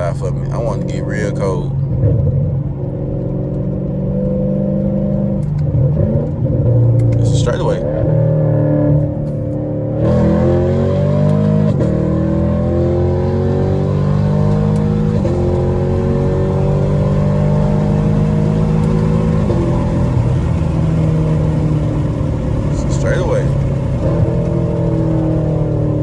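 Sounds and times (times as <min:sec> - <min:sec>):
car engine accelerating with upshifts: 0:00.0 - 0:26.0.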